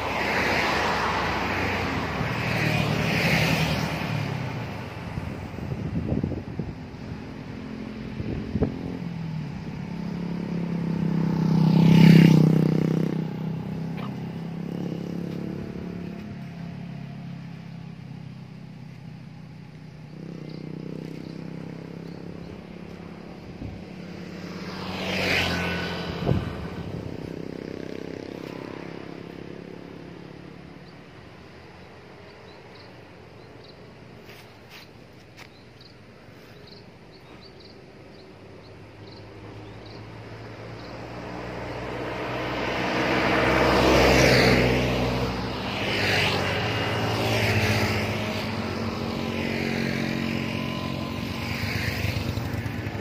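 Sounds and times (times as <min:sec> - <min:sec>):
vehicles passing on a road: 0:00.0 - 0:53.0.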